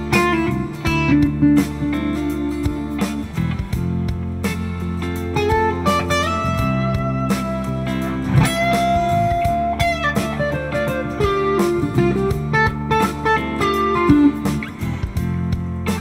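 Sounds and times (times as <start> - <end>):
backing track bass notes: 0.0 - 16.0
electric blues guitar lead: 0.0 - 16.0.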